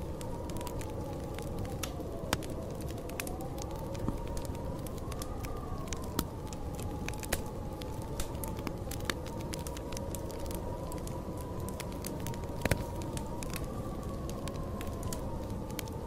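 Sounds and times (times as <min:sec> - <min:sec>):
storm wind whistling: 0:00.0 - 0:16.0
wood fire crackling and popping: 0:00.0 - 0:16.0.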